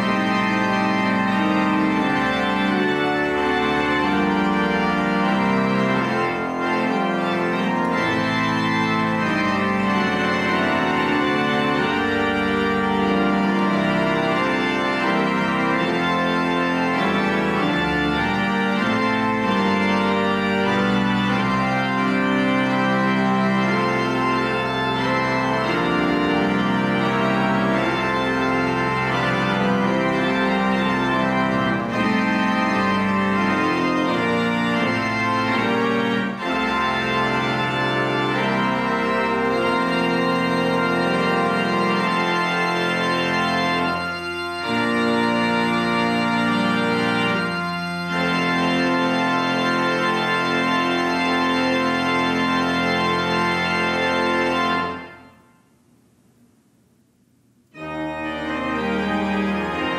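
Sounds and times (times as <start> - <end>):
church organ playing a hymn: 0.0 - 55.5, 57.7 - 59.9.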